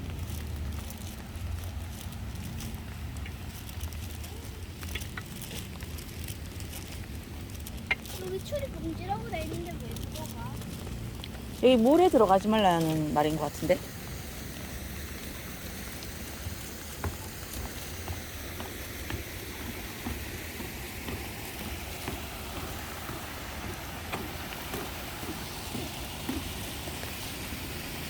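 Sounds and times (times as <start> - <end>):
rain falling: 0.0 - 28.0
raindrops ticking close by: 0.0 - 28.0
rushing stream water: 0.0 - 28.0.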